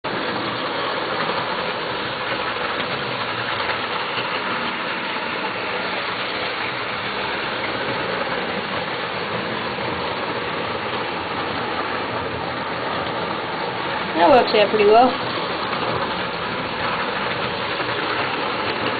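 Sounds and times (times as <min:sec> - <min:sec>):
model train running on track: 0:00.1 - 0:18.9.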